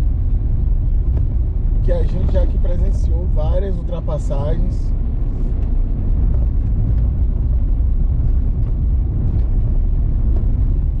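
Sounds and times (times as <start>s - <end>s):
vehicle cabin road rumble: 0.0s - 11.0s.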